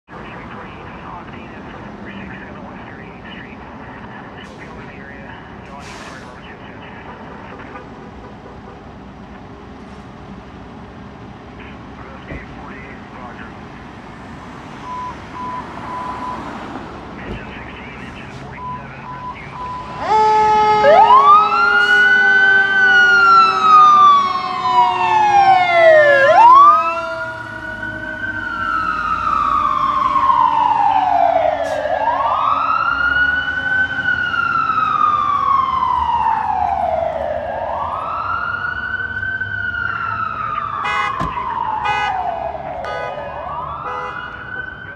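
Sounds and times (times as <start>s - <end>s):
fire engine siren wailing: 0.1s - 9.9s, 11.3s - 44.9s.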